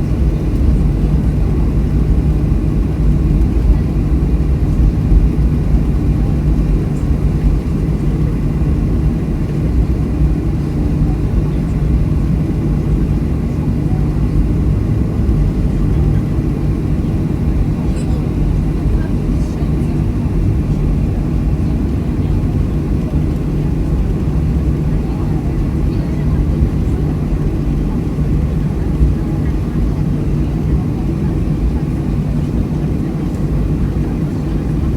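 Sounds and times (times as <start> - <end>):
jet engine drone in cabin: 0.0 - 34.9.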